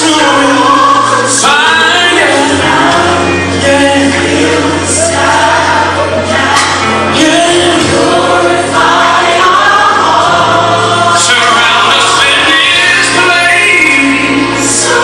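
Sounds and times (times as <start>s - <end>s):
band playing: 0.0s - 15.0s
gospel choir singing: 0.0s - 15.0s
sustained bass line: 0.0s - 15.0s.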